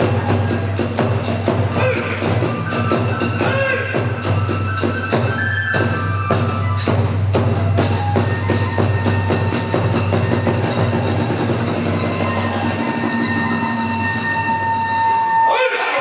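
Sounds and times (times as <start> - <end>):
drum beating: 0.0 - 15.4
small hand cymbals: 0.0 - 15.5
bamboo flute held notes: 0.0 - 16.0.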